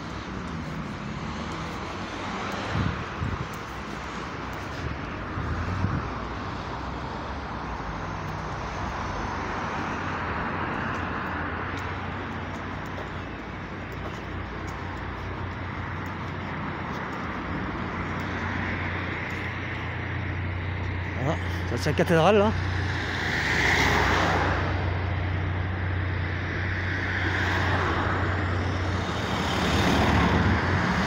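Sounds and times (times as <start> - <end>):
engine hum: 0.0 - 31.0
road and wind noise: 0.0 - 31.0.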